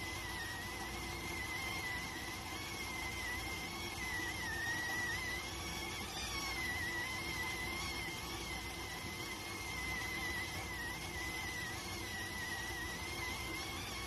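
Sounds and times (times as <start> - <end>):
rice cooker whistling: 0.0 - 14.0.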